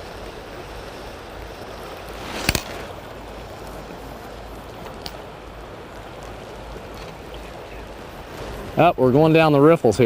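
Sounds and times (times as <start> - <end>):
river water flowing: 0.0 - 10.0.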